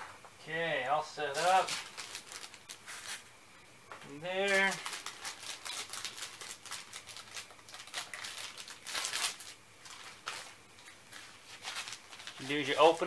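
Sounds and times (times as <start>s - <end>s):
plastic packaging crinkling: 1.3s - 3.3s, 4.3s - 13.0s.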